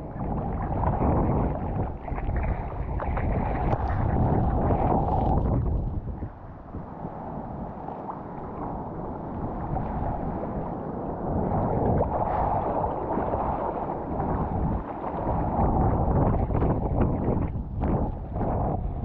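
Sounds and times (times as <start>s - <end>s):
seawater sloshing: 0.0s - 19.0s
wind buffeting microphone: 0.0s - 19.0s.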